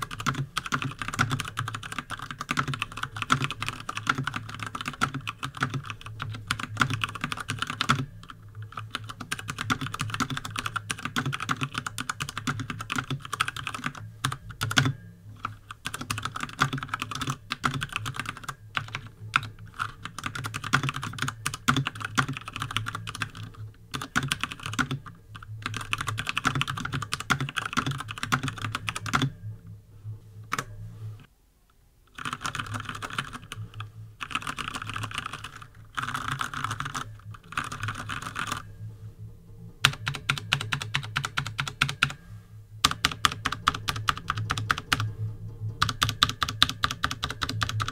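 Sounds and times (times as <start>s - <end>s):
mechanical keyboard typing: 0.0s - 29.4s, 32.1s - 38.6s, 39.8s - 42.2s, 42.8s - 45.1s, 45.8s - 47.9s.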